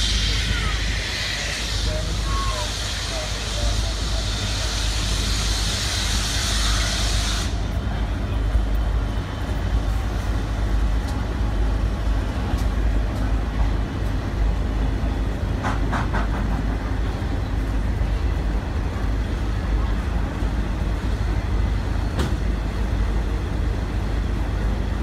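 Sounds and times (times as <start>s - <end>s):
freight train rumbling past: 0.0s - 25.0s
steam locomotive hiss: 0.0s - 25.0s.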